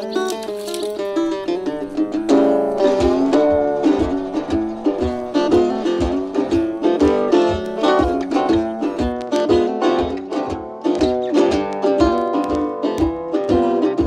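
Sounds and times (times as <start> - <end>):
plucked-string tune over beat: 0.0 - 14.0.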